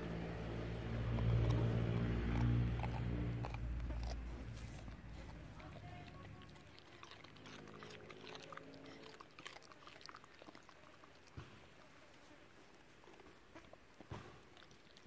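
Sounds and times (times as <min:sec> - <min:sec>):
dog chewing cucumber: 0:00.0 - 0:15.0.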